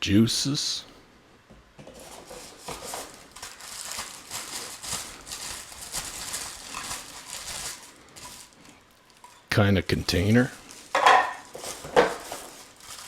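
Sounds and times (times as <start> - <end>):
plastic packaging crinkling: 1.9 - 9.5, 10.1 - 13.0.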